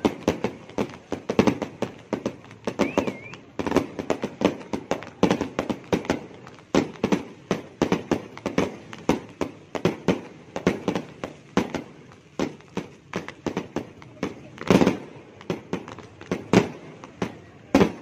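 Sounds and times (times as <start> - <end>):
fireworks and firecrackers banging: 0.0 - 18.0.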